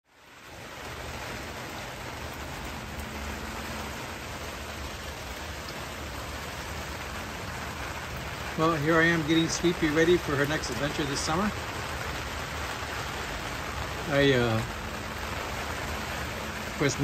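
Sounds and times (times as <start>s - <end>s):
steady rain patter: 0.0s - 17.0s.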